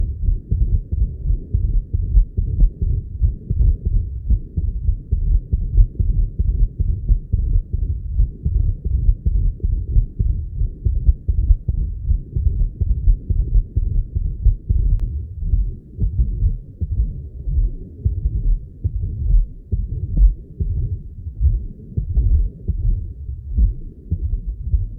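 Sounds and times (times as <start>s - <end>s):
irregular heartbeats with murmur: 0.0s - 24.9s.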